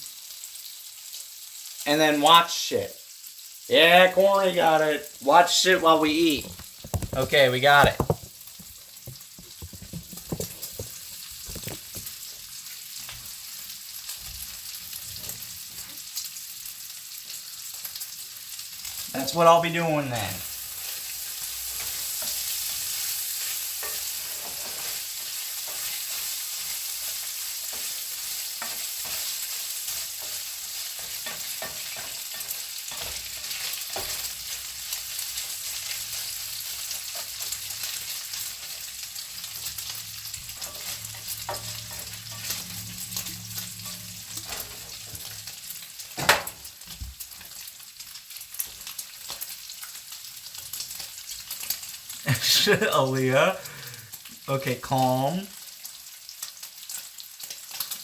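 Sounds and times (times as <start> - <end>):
bacon frying in a pan: 0.0 - 58.0.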